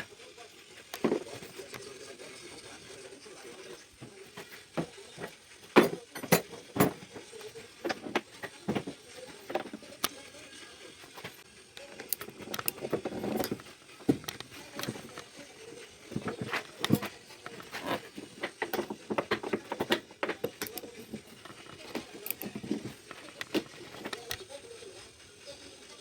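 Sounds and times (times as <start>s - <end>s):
hand tools and metal parts clinking: 0.8s - 1.8s, 4.0s - 10.3s, 11.0s - 24.4s.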